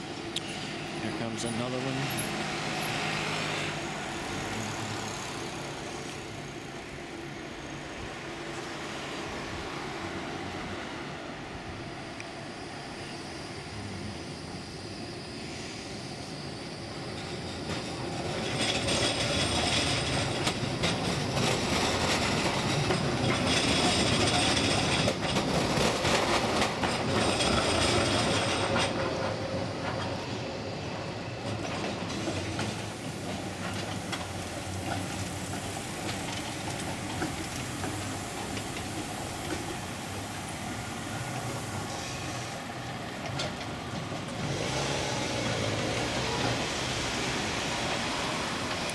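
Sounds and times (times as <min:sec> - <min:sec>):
road traffic: 0:00.0 - 0:48.9
rumble of rolling trams: 0:00.0 - 0:48.9
tram wheels clattering on track: 0:00.0 - 0:48.9
tram wheels squealing: 0:00.0 - 0:48.9.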